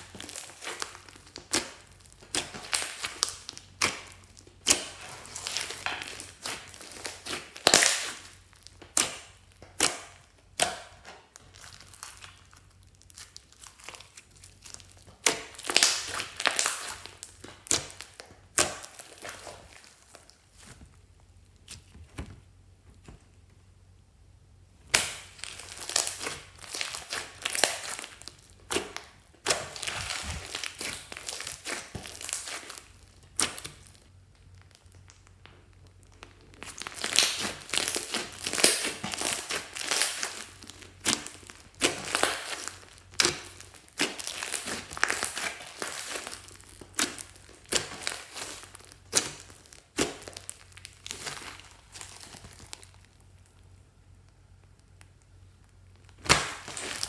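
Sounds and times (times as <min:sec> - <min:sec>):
slime squelching and crackling: 0:00.0 - 0:22.2, 0:24.7 - 0:57.0.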